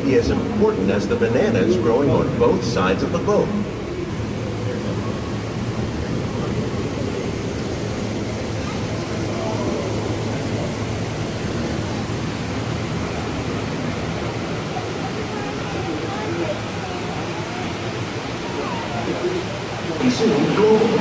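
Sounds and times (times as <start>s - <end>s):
ride boat hum and rushing: 0.0s - 21.0s.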